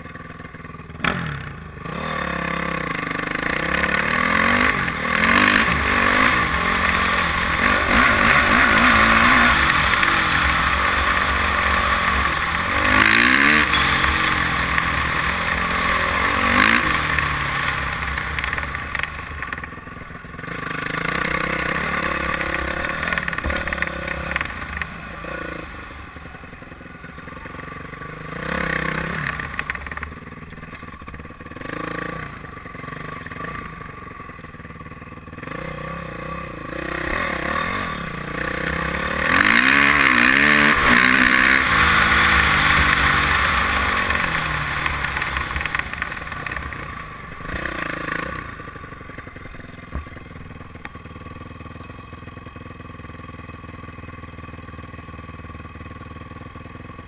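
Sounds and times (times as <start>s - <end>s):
dirt bike engine revving: 0.6s - 34.0s, 34.6s - 51.6s.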